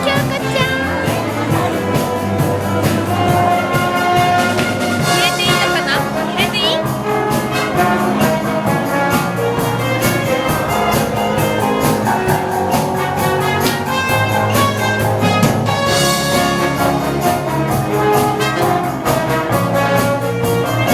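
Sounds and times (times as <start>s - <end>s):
steady drum beat: 0.0s - 20.9s
trumpets and trombones: 0.0s - 20.9s
wind band playing dance music: 0.0s - 20.9s.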